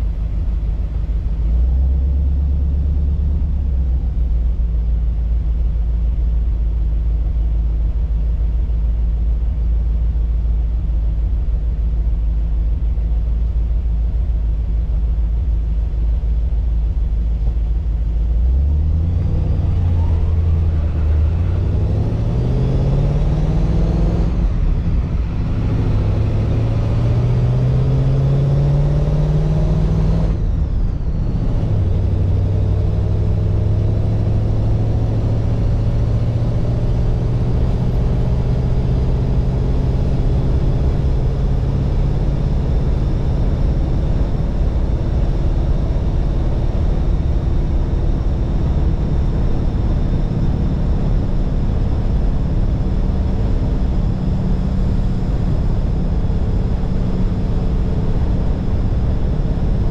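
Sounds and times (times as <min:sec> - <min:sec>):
car engine rumbling and accelerating: 0:00.0 - 0:59.9.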